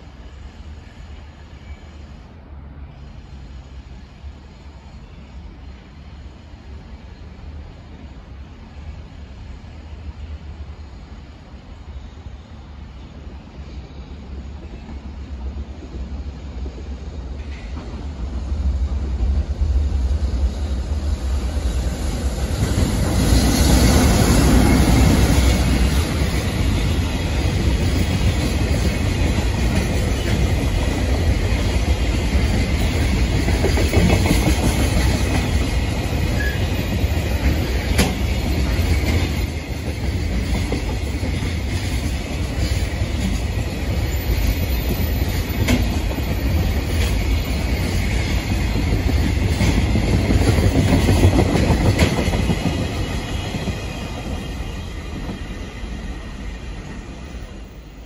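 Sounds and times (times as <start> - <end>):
container train passing: 0.0 - 58.0.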